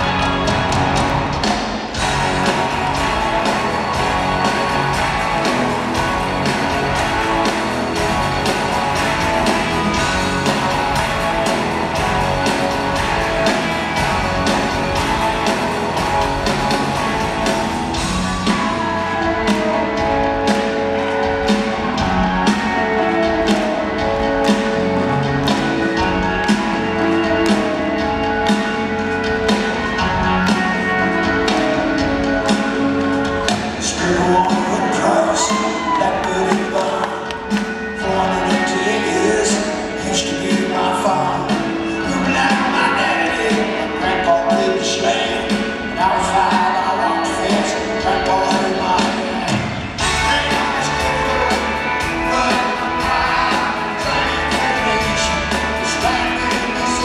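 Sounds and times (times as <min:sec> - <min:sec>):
drum kit beat: 0:00.0 - 0:39.7, 0:47.4 - 0:57.0
electric guitars: 0:00.0 - 0:57.0
keyboards: 0:00.0 - 0:57.0.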